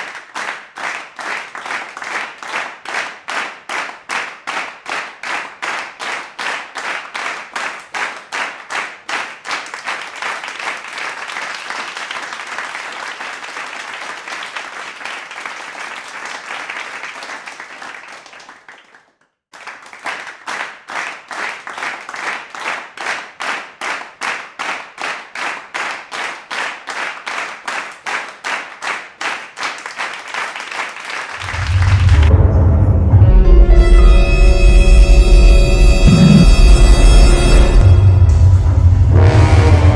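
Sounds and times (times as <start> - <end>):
crowd clapping in time: 0.0 - 32.4.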